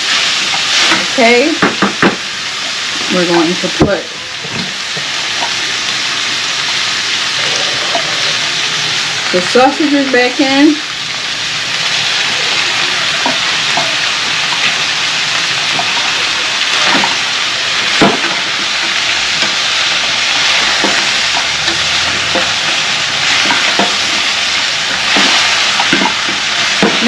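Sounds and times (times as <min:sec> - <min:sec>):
meat sizzling in a pan: 0:00.0 - 0:27.0.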